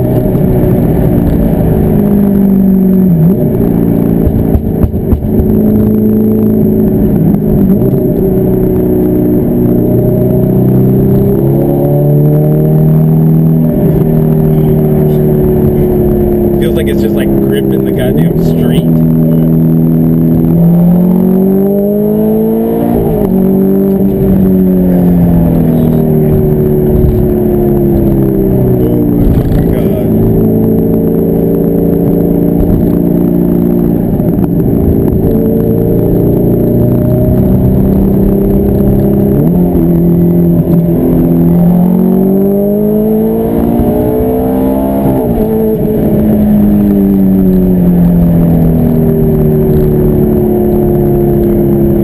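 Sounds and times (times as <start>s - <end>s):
car engine heard from inside cabin: 0.0s - 52.0s.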